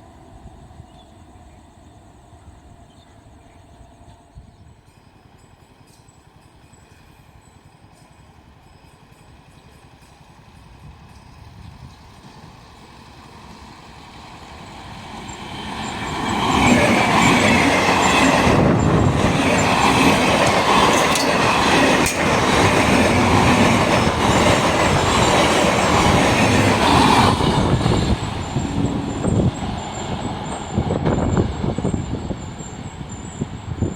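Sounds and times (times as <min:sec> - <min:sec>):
train wheels clattering on rails: 0:04.8 - 0:33.9.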